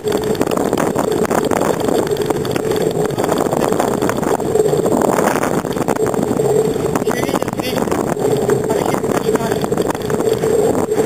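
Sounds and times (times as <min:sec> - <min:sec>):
bicycle rolling on asphalt: 0:00.0 - 0:11.0
steady hum: 0:00.0 - 0:11.0.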